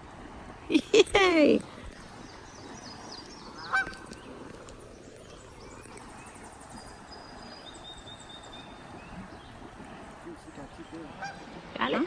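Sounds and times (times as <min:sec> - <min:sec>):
faint wildlife chirps: 0:00.9 - 0:11.5.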